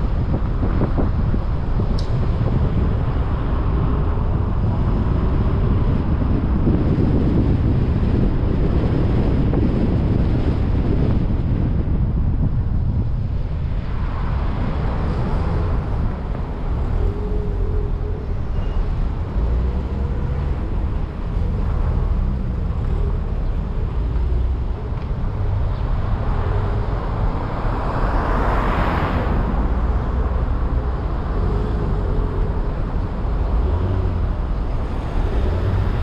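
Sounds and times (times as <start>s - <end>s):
cars passing: 0.0s - 36.0s
wind buffeting microphone: 0.0s - 36.0s.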